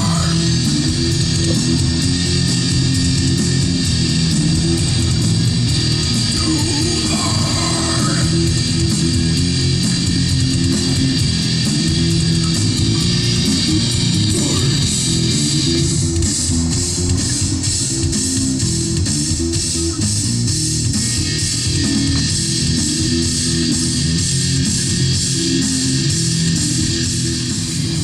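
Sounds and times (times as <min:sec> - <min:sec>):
heavy metal music on car stereo: 0:00.0 - 0:28.0.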